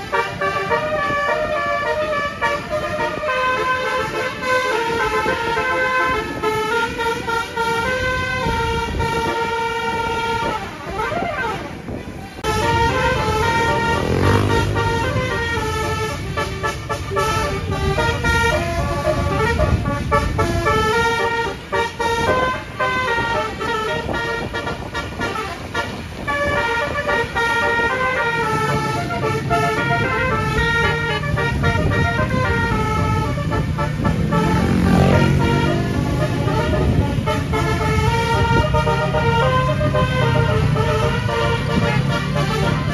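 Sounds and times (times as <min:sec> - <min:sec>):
engine and road noise: 0:00.0 - 0:42.9
multi-tone bus horn tunes: 0:00.0 - 0:42.9.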